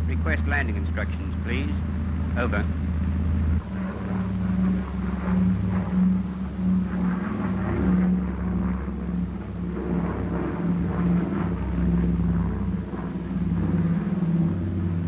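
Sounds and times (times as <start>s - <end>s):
piston engines droning: 0.0s - 15.0s.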